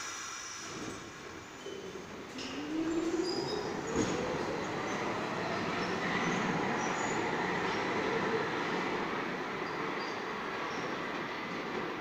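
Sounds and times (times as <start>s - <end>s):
subway train motors whining: 0.0s - 12.0s
wheels rumbling on rail: 1.4s - 12.0s.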